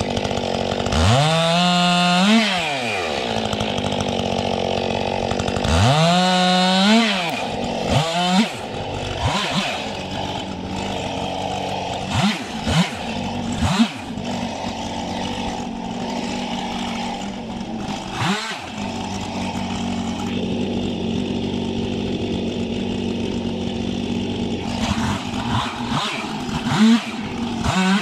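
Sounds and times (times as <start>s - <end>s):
chainsaw idling and revving: 0.0s - 28.0s.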